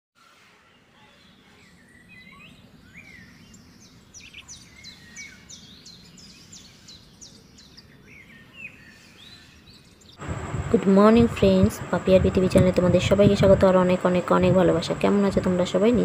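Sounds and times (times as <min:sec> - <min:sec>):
birds chirping: 0:00.7 - 0:16.0
faint low background hum: 0:01.7 - 0:16.0.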